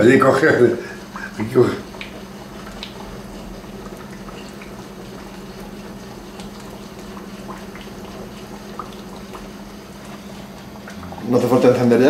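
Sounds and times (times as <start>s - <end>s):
oil bubbling in a frying pan: 0.0s - 12.0s
steady low hum: 0.0s - 12.0s.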